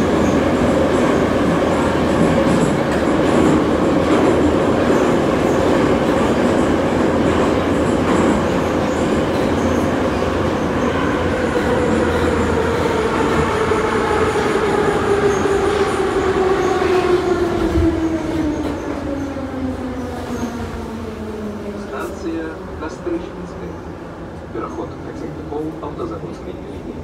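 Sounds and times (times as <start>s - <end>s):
train wheels rumbling in tunnel: 0.0s - 27.0s.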